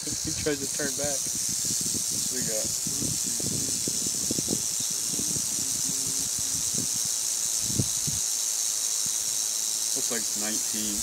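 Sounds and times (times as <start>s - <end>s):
rattlesnake rattling: 0.0s - 11.0s.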